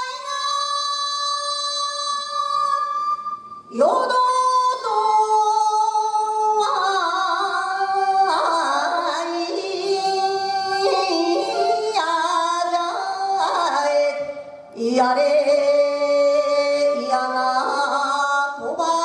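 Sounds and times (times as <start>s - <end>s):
woman singing folk song: 0.0s - 19.0s.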